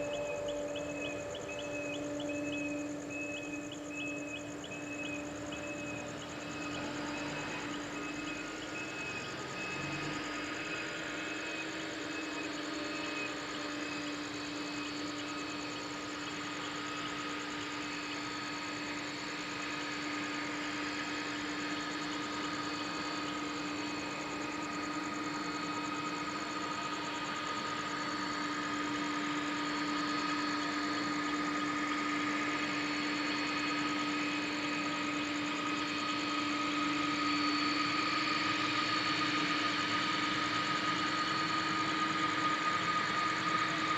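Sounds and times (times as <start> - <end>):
jet engines idling: 0.0 - 43.9.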